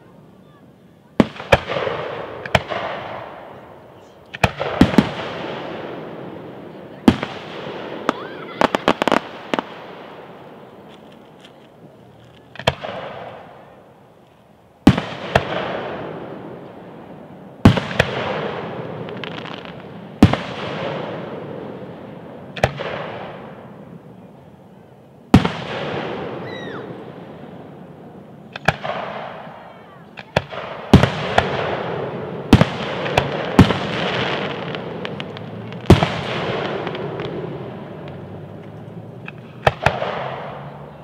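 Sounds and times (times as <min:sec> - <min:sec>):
fireworks bursting with bangs: 0:00.0 - 0:41.0
rolling echo: 0:00.0 - 0:41.0.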